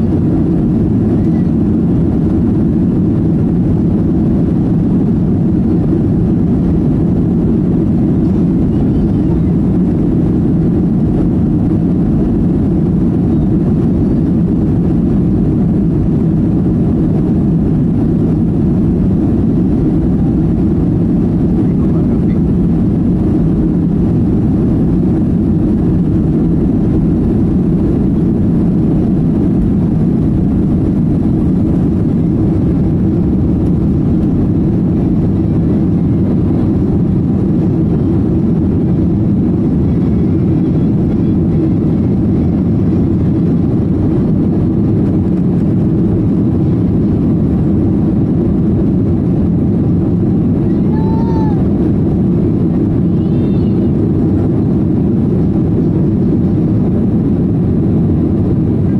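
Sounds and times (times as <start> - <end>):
jet engines roaring in cabin: 0.0 - 58.9.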